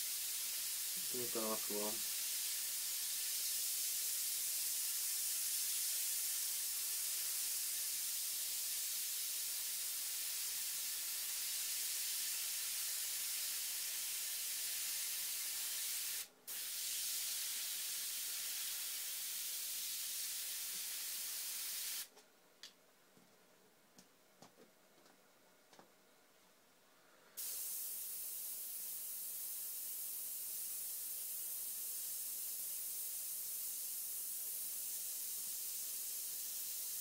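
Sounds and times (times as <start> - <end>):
airbrush spraying hiss: 0.0 - 22.1, 27.4 - 37.0.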